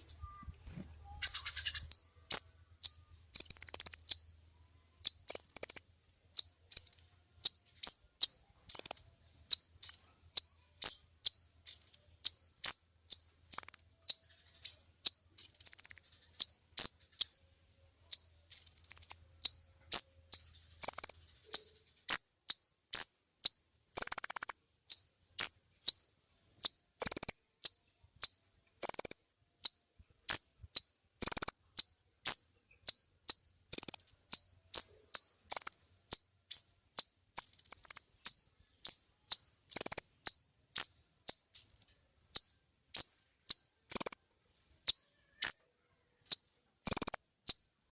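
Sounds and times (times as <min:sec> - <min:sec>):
high thin bird chirps: 0:00.0 - 0:17.4, 0:18.0 - 0:47.9.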